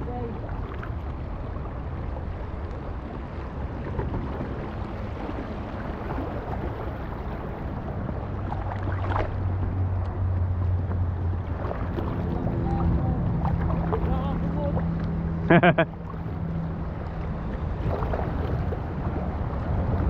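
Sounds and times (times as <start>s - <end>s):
paddle splashes: 0.0s - 20.0s
river water flowing: 0.0s - 20.0s
wind rumble on microphone: 0.0s - 20.0s.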